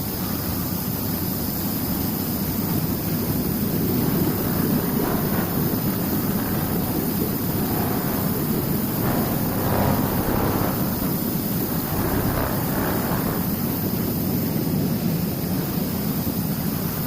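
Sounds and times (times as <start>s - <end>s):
washing machine pump and blower: 0.0s - 17.0s.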